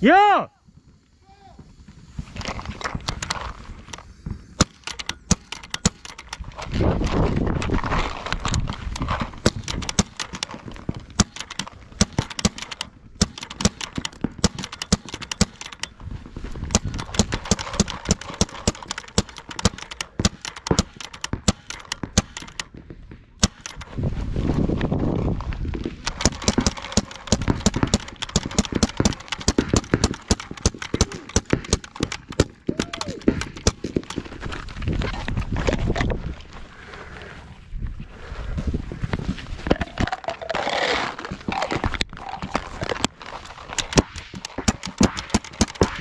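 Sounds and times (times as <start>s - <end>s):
paintball markers popping: 2.4s - 22.8s, 26.0s - 36.1s, 39.7s - 46.0s.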